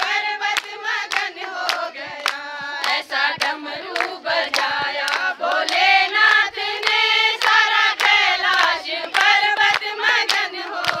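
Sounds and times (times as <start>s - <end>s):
rhythmic hand-clapping: 0.0s - 11.0s
women singing in unison: 0.0s - 11.0s.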